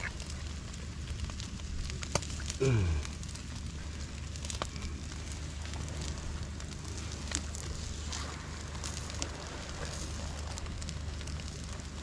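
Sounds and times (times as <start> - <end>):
fire pops: 0.0 - 12.0
low steady rumble: 0.0 - 12.0
wood fire crackling: 0.0 - 12.0.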